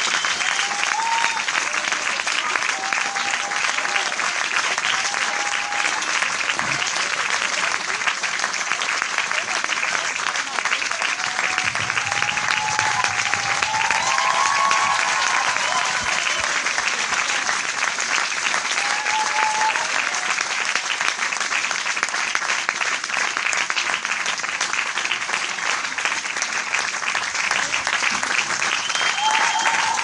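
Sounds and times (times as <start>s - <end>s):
crowd applauding: 0.0s - 30.0s.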